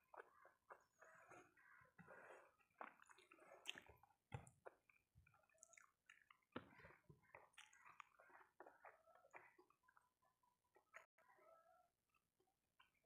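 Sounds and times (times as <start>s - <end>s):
child chewing with mouth smacks: 0.0s - 11.0s.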